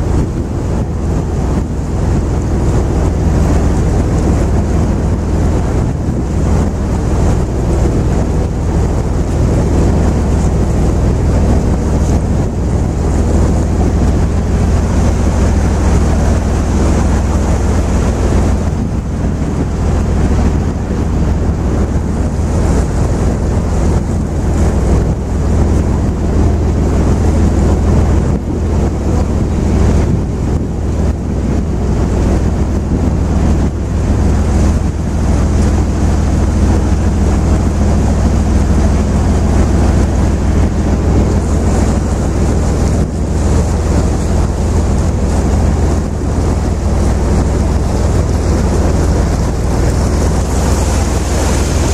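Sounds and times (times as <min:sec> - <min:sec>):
boat engine rumble: 0:00.0 - 0:51.9
water rushing past: 0:00.0 - 0:51.9
wind buffeting microphone: 0:00.0 - 0:51.9.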